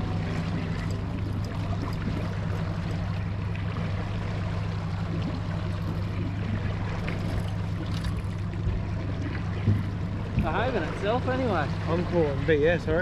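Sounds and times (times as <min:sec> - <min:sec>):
outboard motor humming: 0:00.0 - 0:13.0
water noise: 0:00.0 - 0:13.0.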